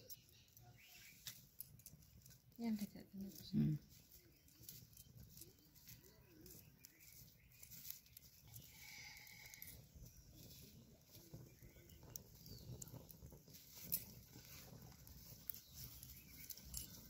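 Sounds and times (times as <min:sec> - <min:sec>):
small fire crackling and popping: 0:00.0 - 0:17.0.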